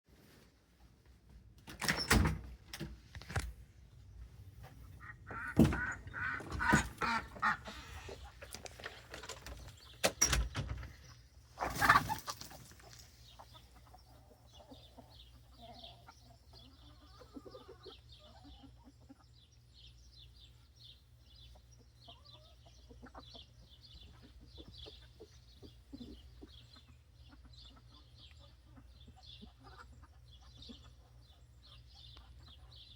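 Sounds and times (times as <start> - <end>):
chickens clucking: 3.6 - 10.0, 10.7 - 32.9.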